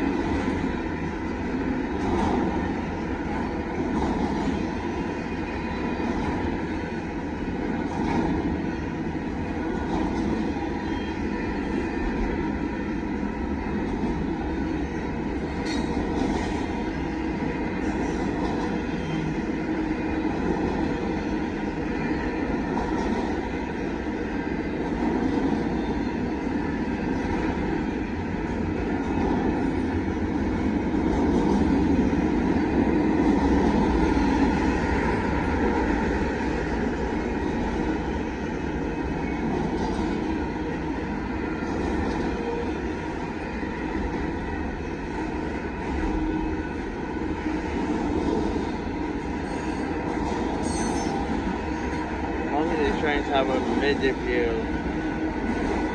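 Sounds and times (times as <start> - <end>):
freight train wheels rumbling on rail: 0.0 - 55.9.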